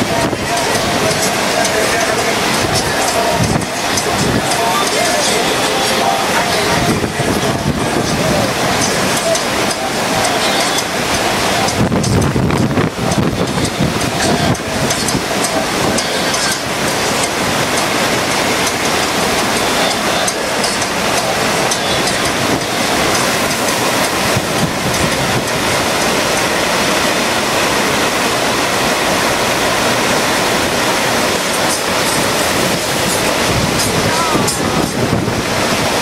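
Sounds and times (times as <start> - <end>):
rushing water on a ramp: 0.0 - 36.0.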